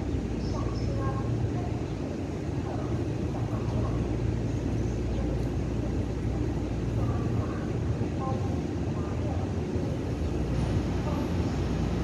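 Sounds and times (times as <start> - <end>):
train approaching rumble: 0.0 - 12.0.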